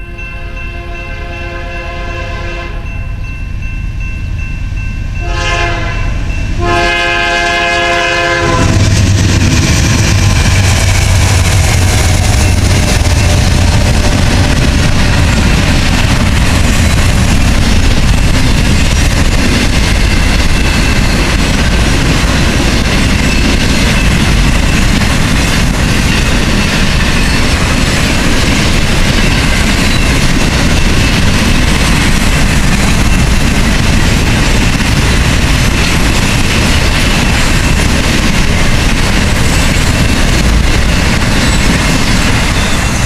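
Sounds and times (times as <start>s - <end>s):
freight train passing: 0.0s - 43.0s.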